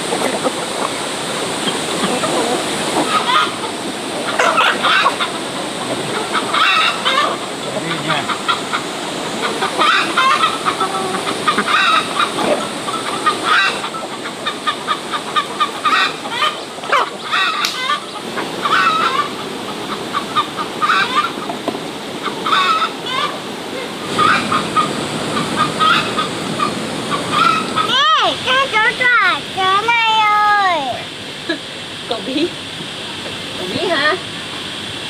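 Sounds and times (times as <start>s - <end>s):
poultry clucking and squawking: 0.0s - 29.2s
rain hissing: 0.0s - 35.0s.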